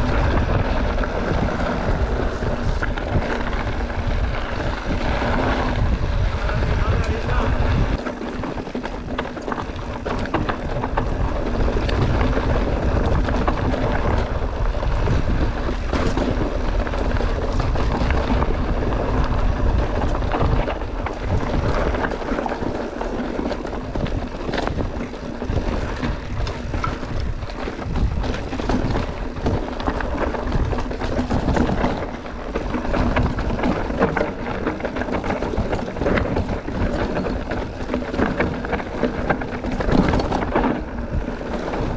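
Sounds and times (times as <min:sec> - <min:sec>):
bike tyres clattering over rocks: 0:00.0 - 0:41.9
wind buffeting microphone: 0:00.0 - 0:41.9.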